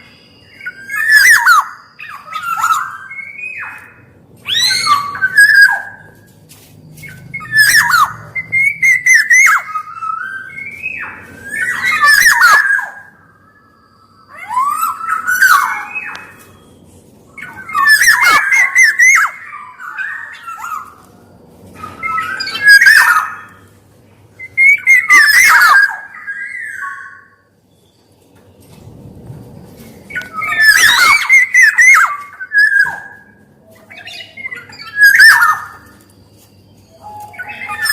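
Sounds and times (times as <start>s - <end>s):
oriole calling: 0.0s - 28.8s, 29.7s - 37.9s.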